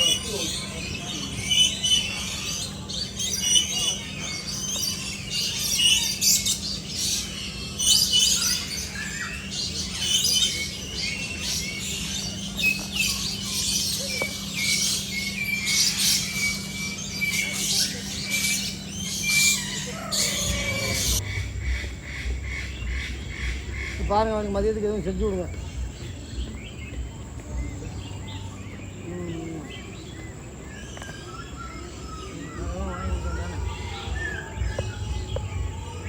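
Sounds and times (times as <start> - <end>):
birds squawking: 0.0 - 36.0.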